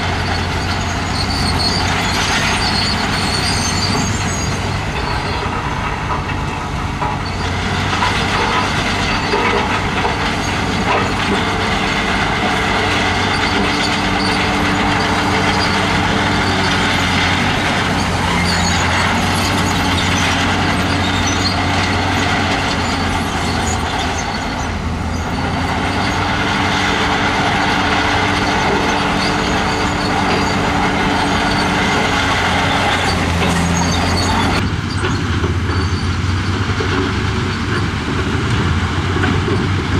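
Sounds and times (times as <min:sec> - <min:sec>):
dense mechanical noise: 0:00.0 - 0:39.9
heavy diesel engine running hard: 0:00.0 - 0:39.9.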